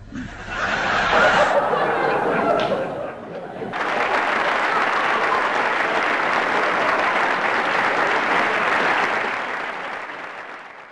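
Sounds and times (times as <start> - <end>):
audience applauding: 0.8 - 10.9.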